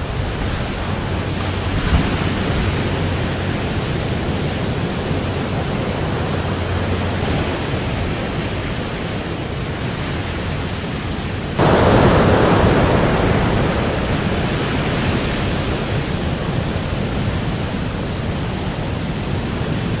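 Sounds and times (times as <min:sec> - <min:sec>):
heavy surf: 0:00.0 - 0:20.0
strong wind: 0:00.0 - 0:20.0.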